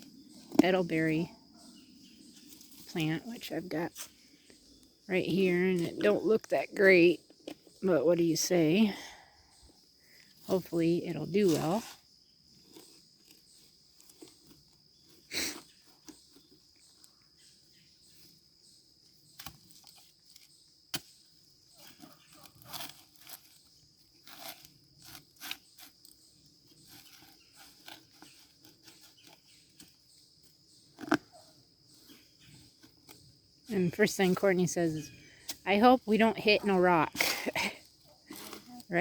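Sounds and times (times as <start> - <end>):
high insect trill: 0.0 - 39.0.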